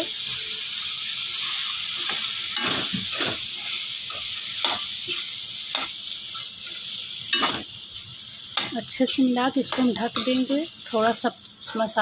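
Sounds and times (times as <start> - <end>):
food sizzling in a pan: 0.0 - 12.0
metal spoon scraping a pan: 1.4 - 7.7, 8.6 - 11.9.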